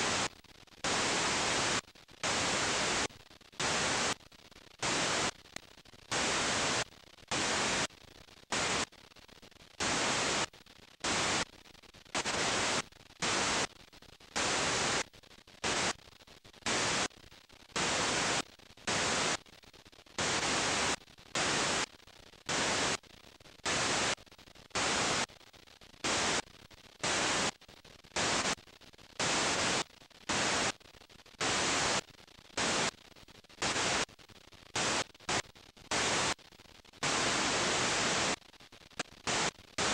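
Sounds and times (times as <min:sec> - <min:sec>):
videotape static hiss: 0:00.0 - 0:39.9.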